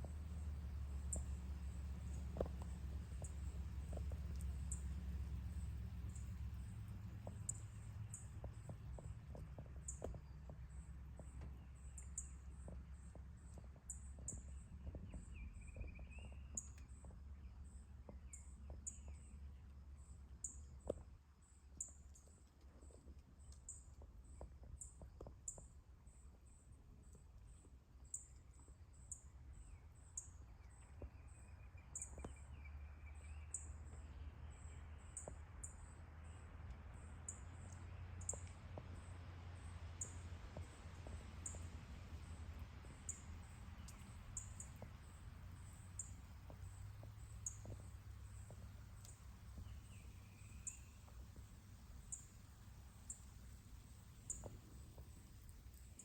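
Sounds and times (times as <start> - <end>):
low steady hum: 0.0 - 22.1, 29.2 - 56.0.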